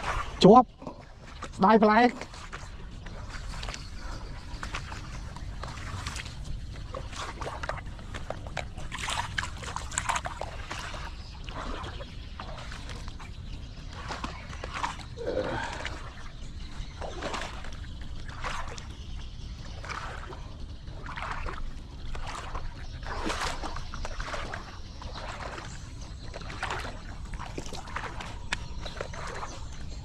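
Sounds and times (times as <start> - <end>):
splashing in shallow water: 0.0 - 30.0.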